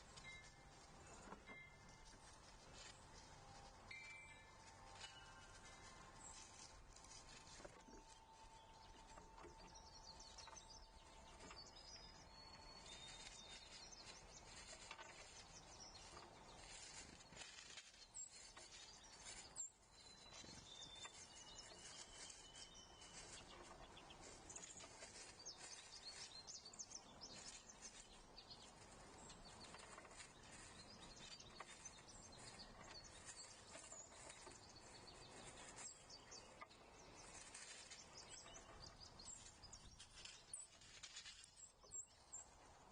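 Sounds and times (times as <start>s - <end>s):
songbird calls and chirps: 0.0s - 42.9s.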